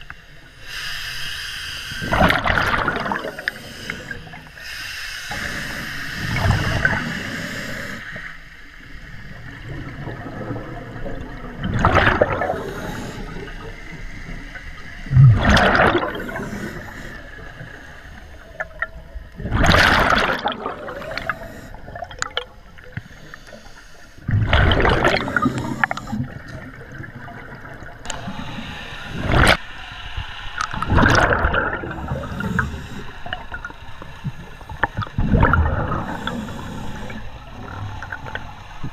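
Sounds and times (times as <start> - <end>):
underwater breath bubbling: 0.0 - 8.5, 9.2 - 38.9.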